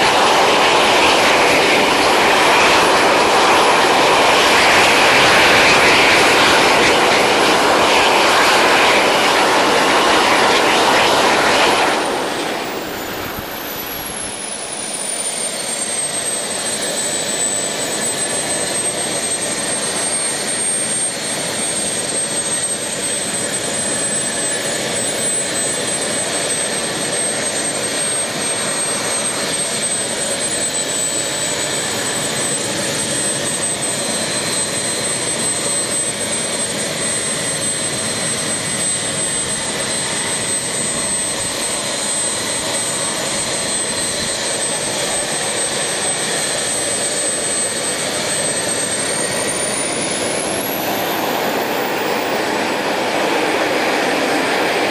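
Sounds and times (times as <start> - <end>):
jet turbine roaring and whining: 0.0 - 54.9.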